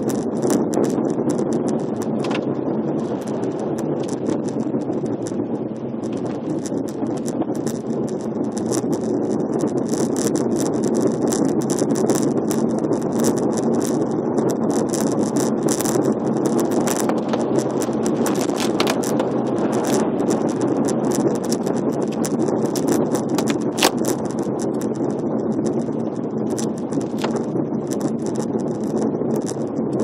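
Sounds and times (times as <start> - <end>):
crackle of ticks: 0.0 - 30.0
road and tyre noise: 0.0 - 30.0.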